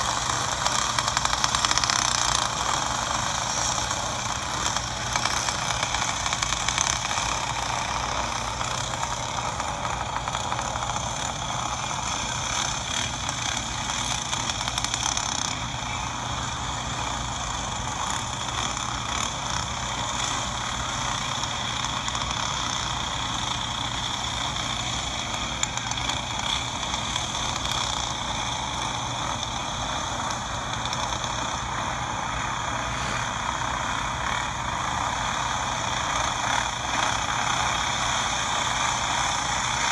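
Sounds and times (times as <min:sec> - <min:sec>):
kart engines buzzing: 0:00.0 - 0:39.9.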